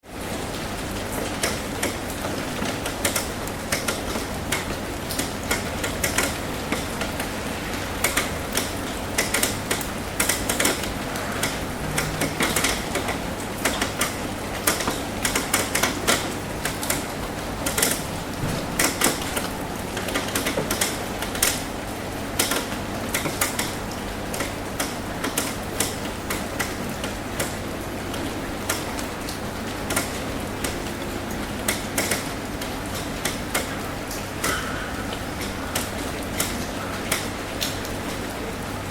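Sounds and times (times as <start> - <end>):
hiss of rainfall: 0.0 - 38.9
rain drops tapping on a roof: 0.0 - 38.9.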